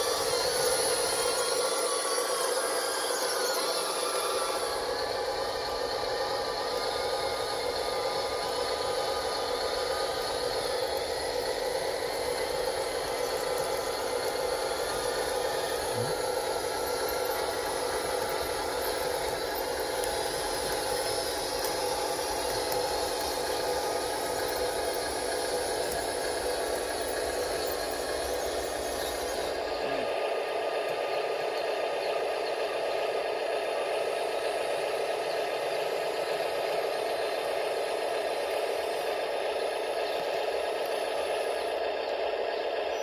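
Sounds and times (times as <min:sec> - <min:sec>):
small electric motors whining: 0:00.0 - 0:43.0.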